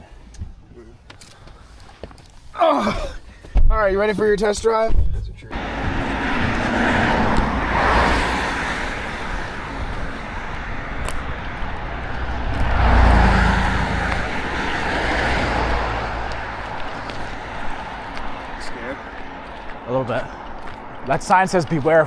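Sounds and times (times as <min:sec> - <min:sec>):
car road and engine noise: 0:03.5 - 0:22.0.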